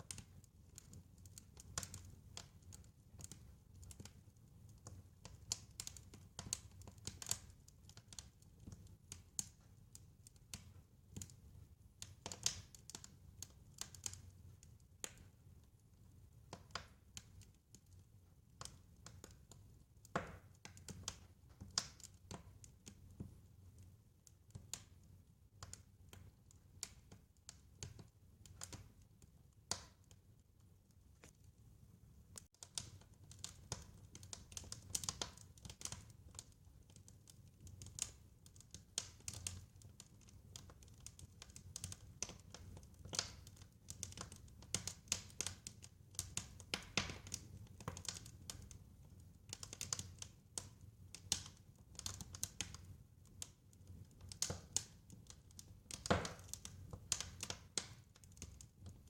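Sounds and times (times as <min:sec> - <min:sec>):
wood fire pops and snaps: 0:00.0 - 0:15.6, 0:16.2 - 0:31.6, 0:32.3 - 0:59.0.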